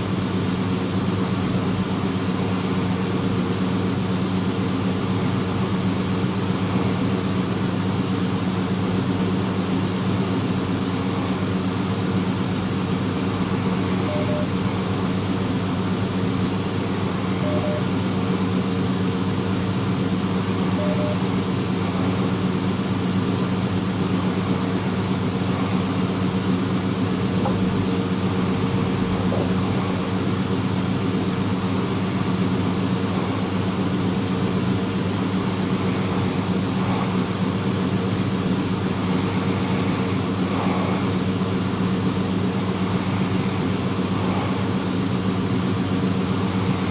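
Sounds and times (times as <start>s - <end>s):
low mechanical drone: 0.0s - 46.9s.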